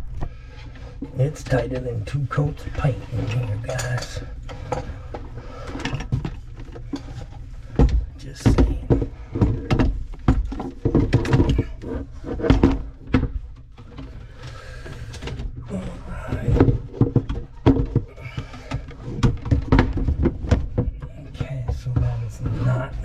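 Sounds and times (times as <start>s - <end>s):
plumbing parts knocking and clunking: 0.0s - 23.0s
rustling and scraping: 0.0s - 23.0s.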